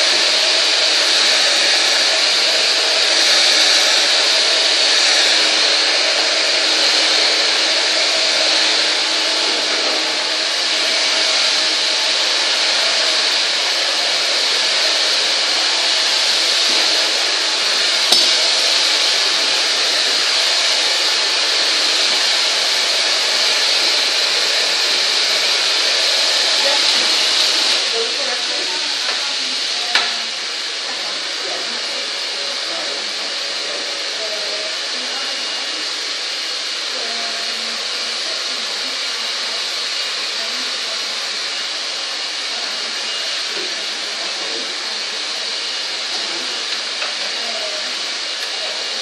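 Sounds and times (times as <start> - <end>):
hair dryer blowing: 0.0 - 49.0.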